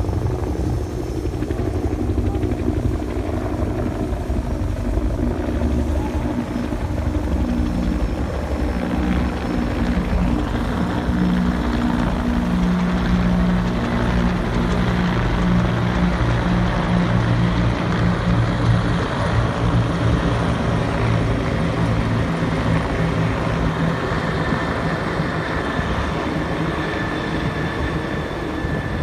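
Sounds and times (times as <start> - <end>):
helicopters droning overhead: 0.0 - 29.0.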